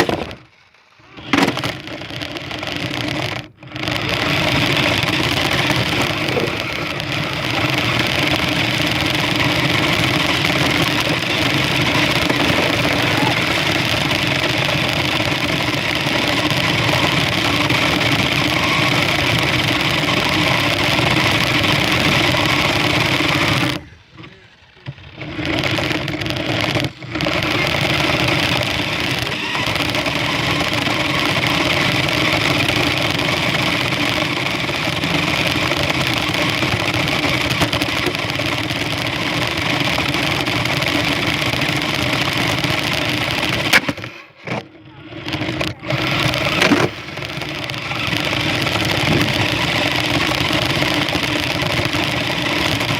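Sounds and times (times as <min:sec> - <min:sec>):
toy car electric motor running: 0:00.0 - 0:52.9.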